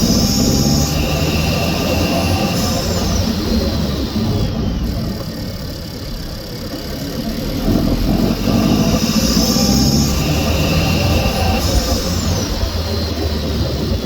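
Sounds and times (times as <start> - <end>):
car engine running while driving: 0.0 - 14.0.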